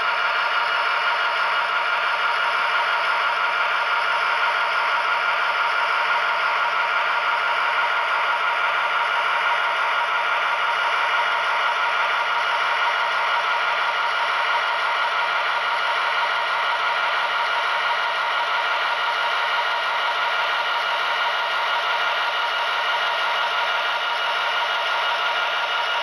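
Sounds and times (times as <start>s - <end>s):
model train diesel engine sound: 0.0s - 26.0s.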